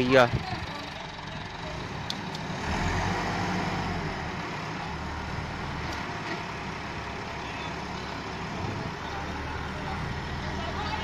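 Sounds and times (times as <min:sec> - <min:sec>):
tractor diesel engine straining: 0:00.0 - 0:11.0.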